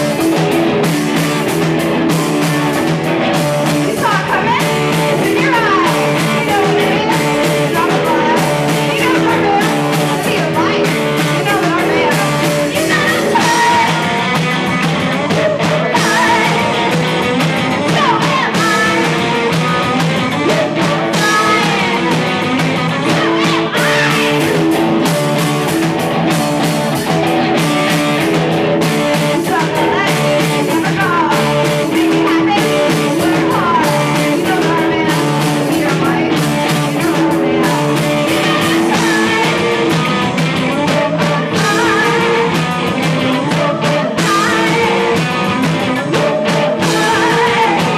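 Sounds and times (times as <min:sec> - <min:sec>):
rock band playing: 0:00.0 - 0:47.9
person singing: 0:01.8 - 0:26.0, 0:26.6 - 0:47.9.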